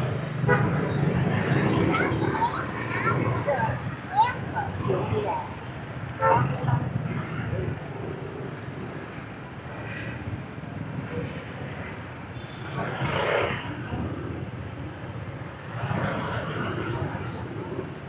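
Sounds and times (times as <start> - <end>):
motorbike traffic noise: 0.0 - 18.0.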